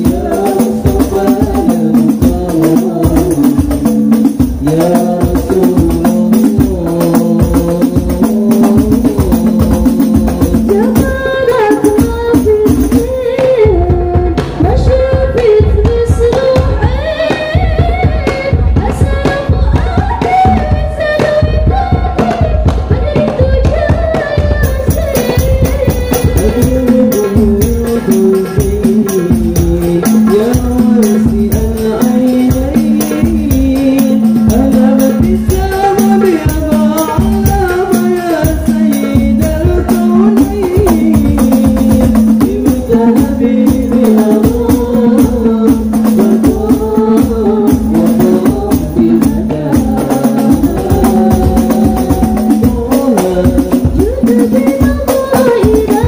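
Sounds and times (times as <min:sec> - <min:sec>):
frame drums playing fast rhythm: 0:00.0 - 0:56.0
man singing: 0:00.0 - 0:56.0.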